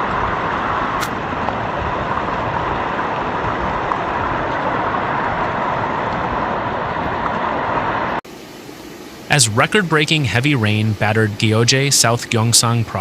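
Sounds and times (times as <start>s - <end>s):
heavy rain and floodwater rushing: 0.0s - 13.0s.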